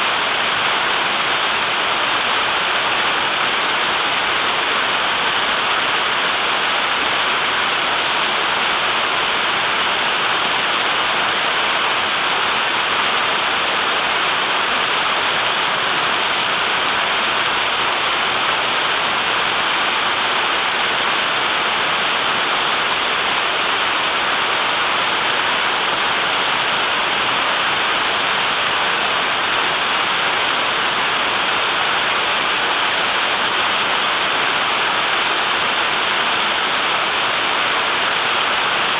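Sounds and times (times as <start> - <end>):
small waterfall rushing: 0.0 - 38.9.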